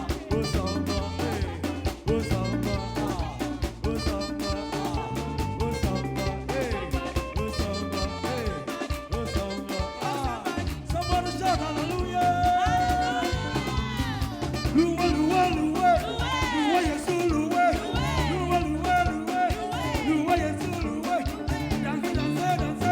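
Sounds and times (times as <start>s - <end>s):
bass line: 0.0s - 22.9s
live band playing upbeat music: 0.0s - 22.9s
steady drum beat: 0.0s - 22.9s.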